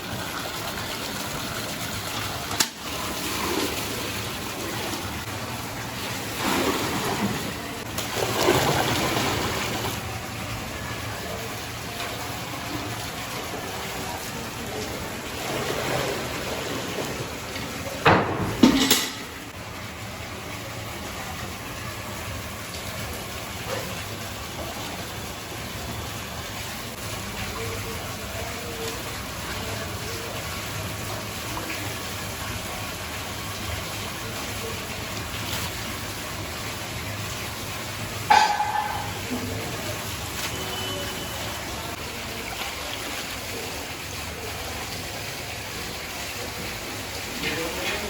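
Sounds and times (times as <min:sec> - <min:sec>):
faint indistinct voices: 0:06.4 - 0:35.9, 0:37.8 - 0:48.0.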